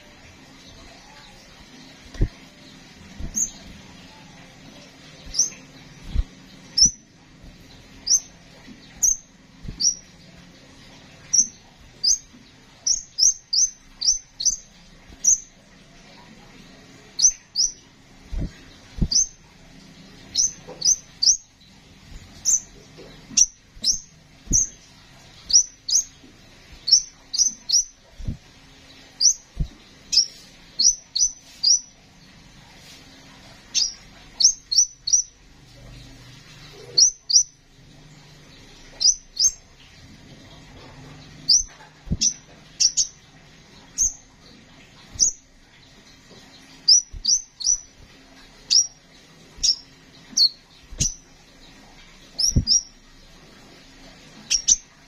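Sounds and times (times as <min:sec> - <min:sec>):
bird chirping: 0:00.0 - 0:32.4, 0:33.4 - 0:37.6, 0:38.2 - 0:40.1, 0:41.0 - 0:53.2, 0:54.4 - 0:55.0.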